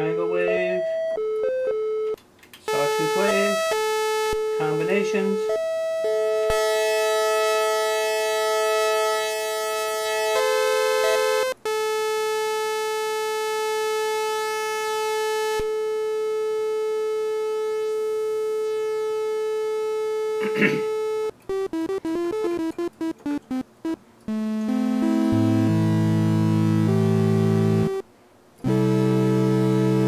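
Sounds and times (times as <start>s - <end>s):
analog synthesizer notes: 0.0s - 28.0s, 28.6s - 30.0s.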